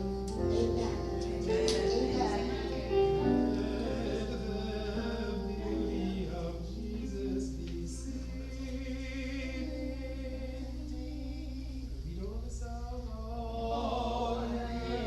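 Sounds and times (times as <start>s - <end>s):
group singing a hymn: 0.0s - 15.0s
steady low hum: 0.0s - 15.0s.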